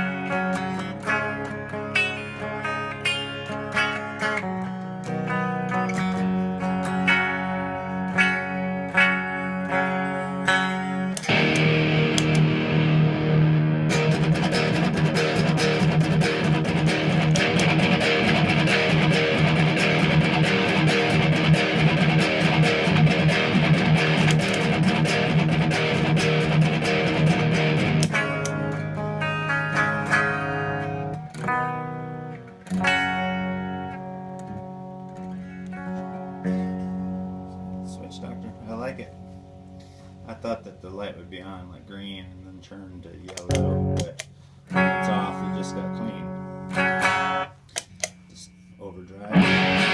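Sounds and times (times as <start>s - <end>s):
clean electric guitar notes: 0.0s - 41.4s, 43.4s - 47.7s, 49.2s - 49.9s
distorted electric guitar: 0.0s - 41.4s, 43.3s - 48.5s, 49.1s - 49.9s.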